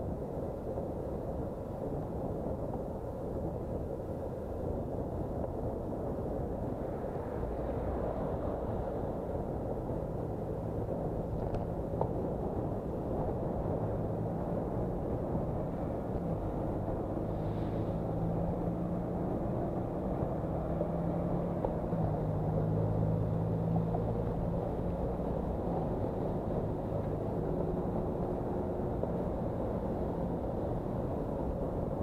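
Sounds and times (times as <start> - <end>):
bus engine drone: 0.0 - 32.0
traffic rumble: 0.0 - 32.0.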